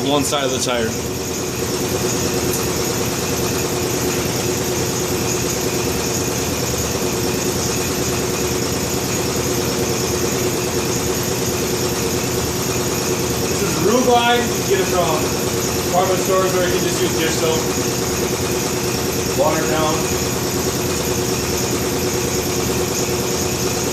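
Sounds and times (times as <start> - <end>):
machine droning: 0.0 - 23.9.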